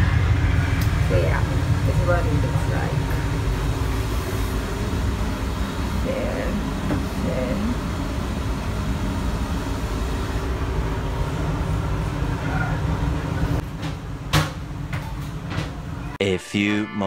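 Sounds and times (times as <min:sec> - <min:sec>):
moving train rumble: 0:00.0 - 0:16.2.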